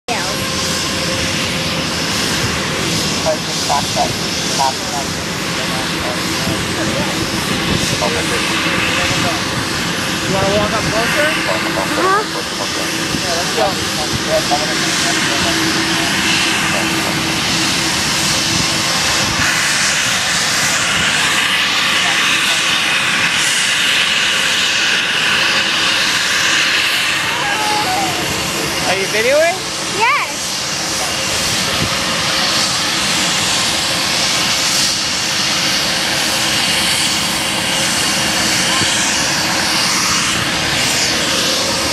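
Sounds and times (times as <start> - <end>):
jet engines rushing: 0.1 - 41.9.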